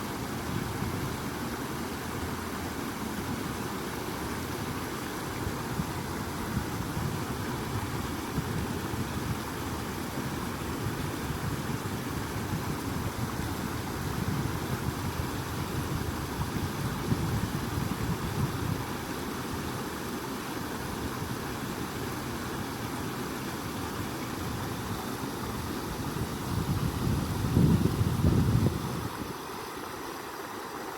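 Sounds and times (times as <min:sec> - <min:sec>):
water rushing: 0:00.0 - 0:30.9.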